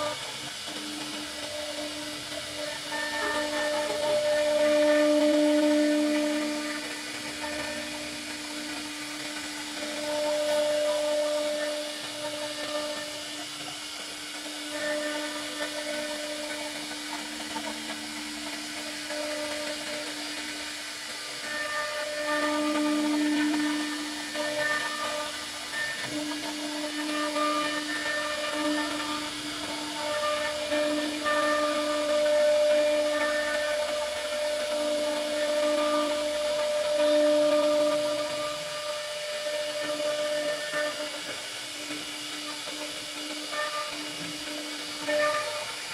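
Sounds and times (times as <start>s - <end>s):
router spindle cutting wood: 0.0s - 45.9s.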